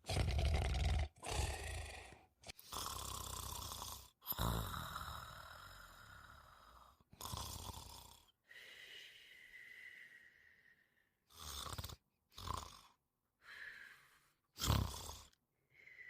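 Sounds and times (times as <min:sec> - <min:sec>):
person snoring: 0:00.0 - 0:16.0.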